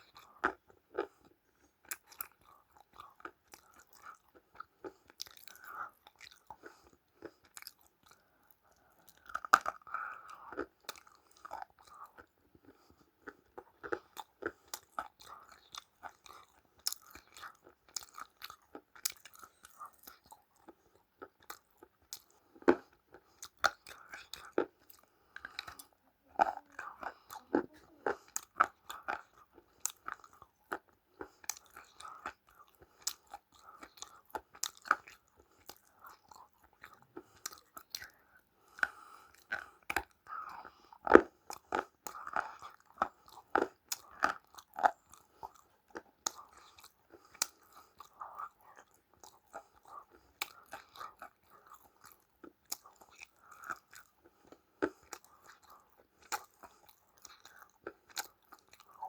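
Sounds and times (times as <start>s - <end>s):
crunchy food chewing: 0.0s - 59.0s.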